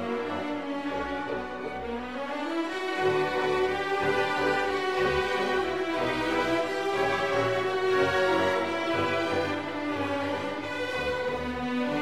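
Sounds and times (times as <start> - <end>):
orchestral music with held strings: 0.0 - 12.0.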